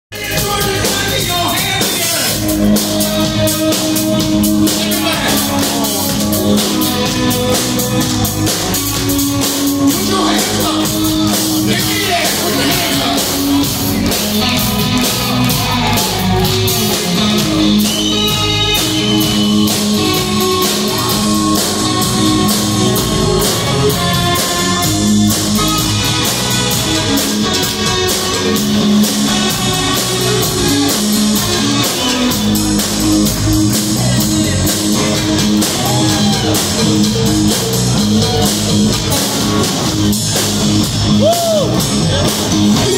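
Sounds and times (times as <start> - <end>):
drums: 0.1 - 42.9
live rock band playing: 0.1 - 42.9
electric guitar lead lines: 0.2 - 42.9.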